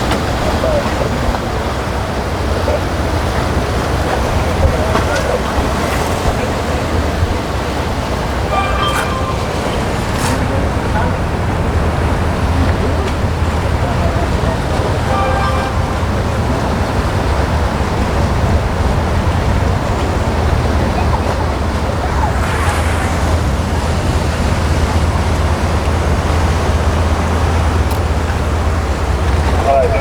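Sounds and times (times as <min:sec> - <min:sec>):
boat engine rumble: 0:00.0 - 0:30.0
surf: 0:00.0 - 0:30.0
wind: 0:00.0 - 0:30.0.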